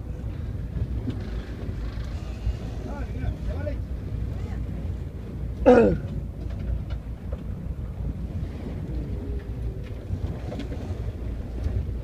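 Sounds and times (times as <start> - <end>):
fishing boat engine rumble: 0.0 - 12.0
wind buffeting microphone: 0.0 - 12.0.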